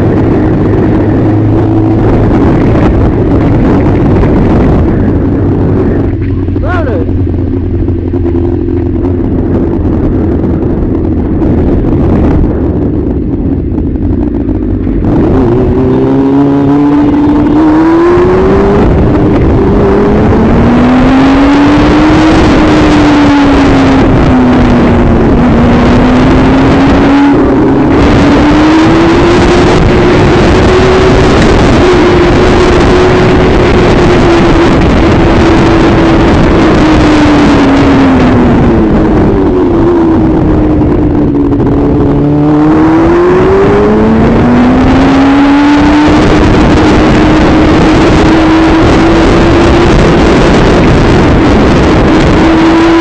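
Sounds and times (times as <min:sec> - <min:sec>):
road noise: 0:00.0 - 0:53.0
vehicle engine: 0:00.0 - 0:53.0.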